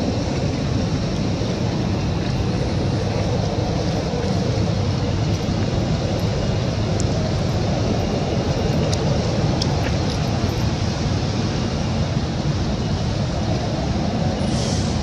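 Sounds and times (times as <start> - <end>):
steady low rumbling: 0.0 - 15.0.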